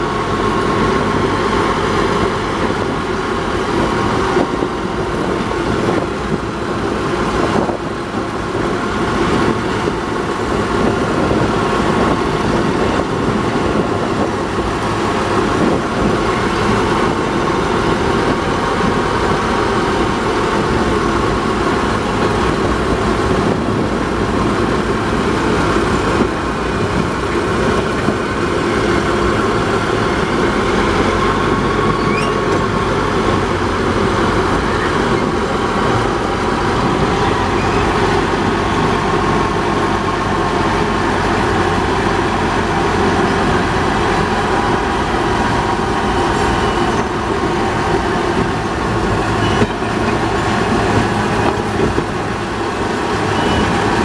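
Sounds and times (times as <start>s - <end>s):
diesel locomotive engine: 0.0s - 54.0s
wheels running on rails: 0.0s - 54.0s.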